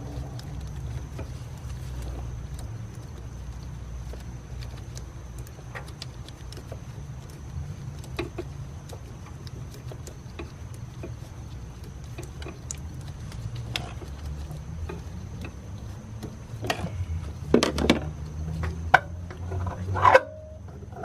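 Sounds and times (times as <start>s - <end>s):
hands and tools clicking and tapping: 0.0s - 19.8s
steady low hum: 0.0s - 21.0s.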